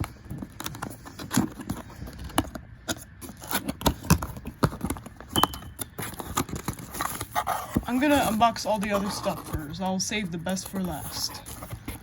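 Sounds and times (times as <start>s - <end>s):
cardboard box being opened: 0.0s - 12.0s
packaging rustling: 0.0s - 12.0s.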